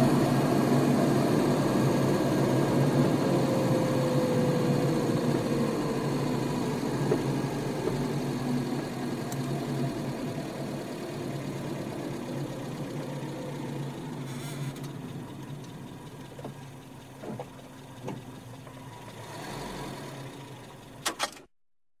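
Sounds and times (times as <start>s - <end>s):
sports car engine idling: 0.0s - 19.2s, 20.2s - 21.0s.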